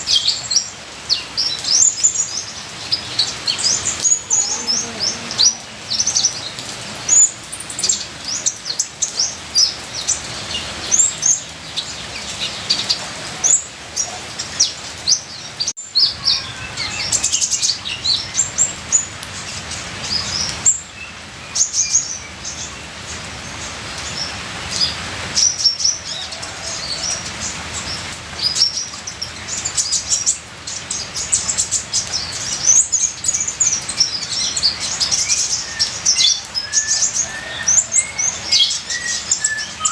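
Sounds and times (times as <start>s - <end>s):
bird chirping and twittering: 0.0s - 39.9s
trickling water: 0.0s - 39.9s.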